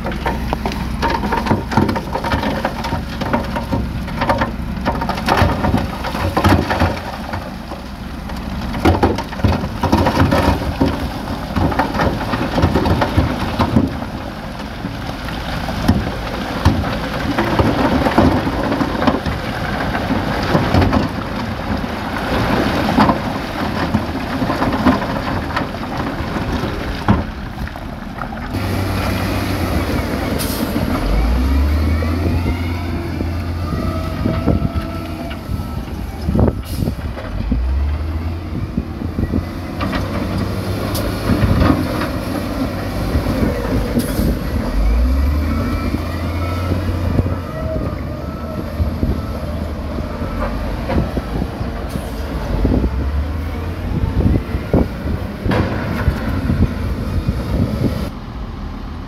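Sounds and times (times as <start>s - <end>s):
rock and soil clattering: 0.0s - 58.2s
diesel engine droning: 0.0s - 59.0s.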